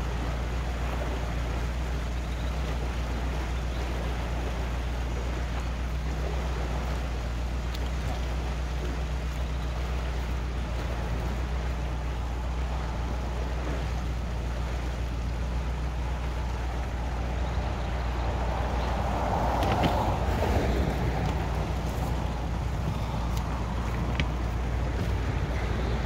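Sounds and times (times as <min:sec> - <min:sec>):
boat engine idling: 0:00.0 - 0:26.0
water rushing through lock: 0:00.0 - 0:26.0.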